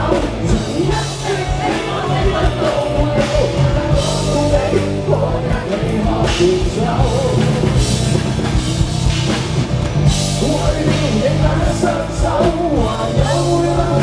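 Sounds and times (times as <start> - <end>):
person singing: 0.0 - 8.2, 10.4 - 14.0
live rock band playing: 0.0 - 14.0.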